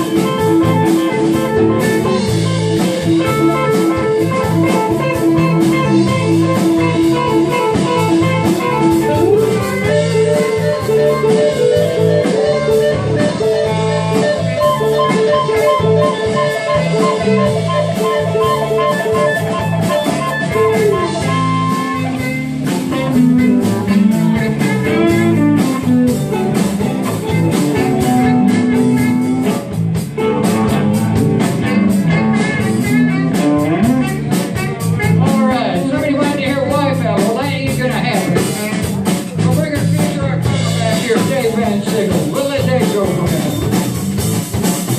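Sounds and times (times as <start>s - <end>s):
electric guitar bent notes: 0.0s - 44.9s
live blues rock band: 0.0s - 44.9s.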